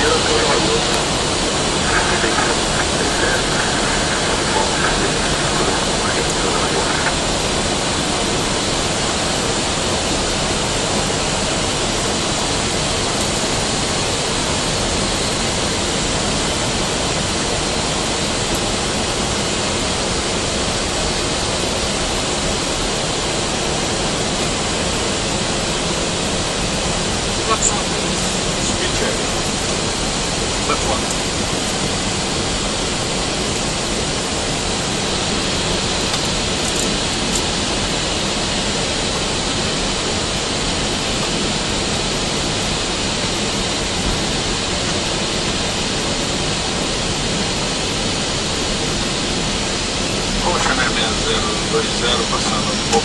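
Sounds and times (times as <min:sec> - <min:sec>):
slipstream and engine noise: 0:00.0 - 0:53.0.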